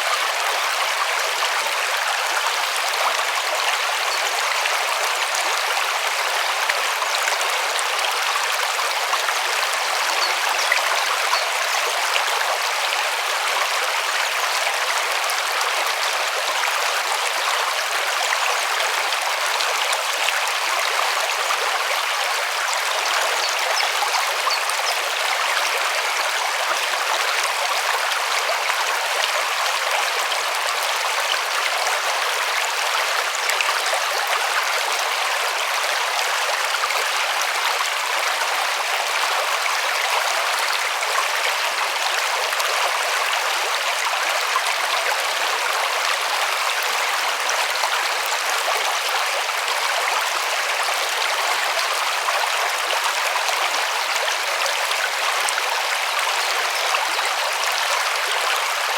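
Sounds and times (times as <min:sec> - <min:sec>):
river water running over stones: 0:00.0 - 0:58.9.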